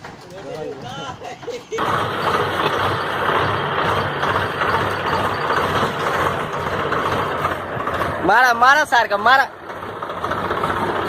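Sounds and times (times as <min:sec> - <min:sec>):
heavy machine running: 0:00.0 - 0:11.0.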